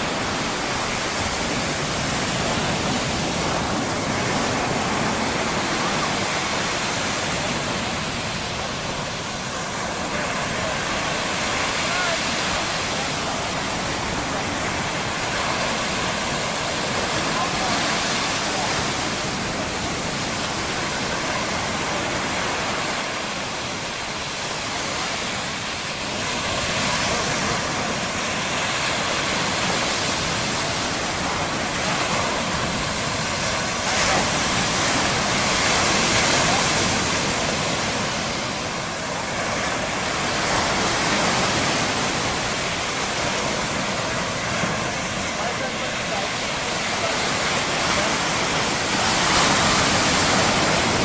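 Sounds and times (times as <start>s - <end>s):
surf washing onto beach: 0.0s - 51.0s.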